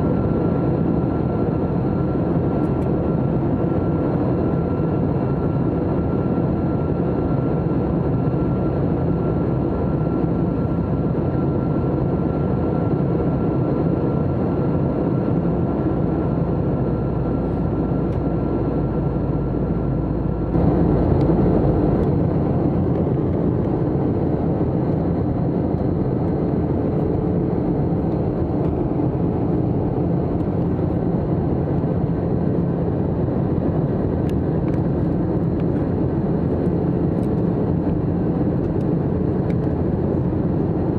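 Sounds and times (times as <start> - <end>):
jet engine and airflow noise: 0.0 - 40.9.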